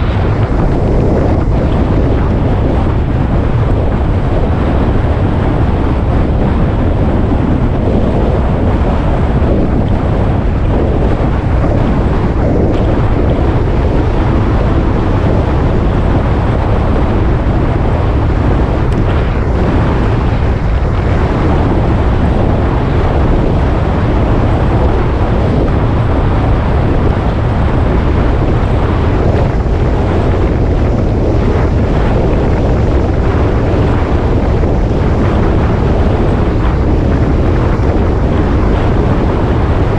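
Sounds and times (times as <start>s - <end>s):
road noise: 0.0s - 39.9s
wind noise on microphone: 0.0s - 39.9s.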